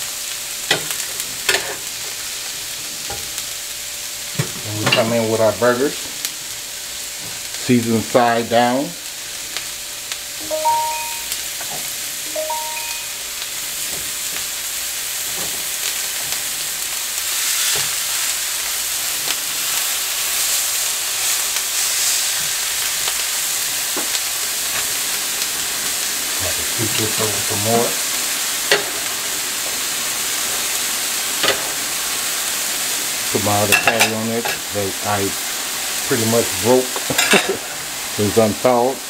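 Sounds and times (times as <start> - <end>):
meat patties sizzling on a griddle: 0.0 - 10.4, 13.1 - 39.0
onions frying: 0.0 - 39.0.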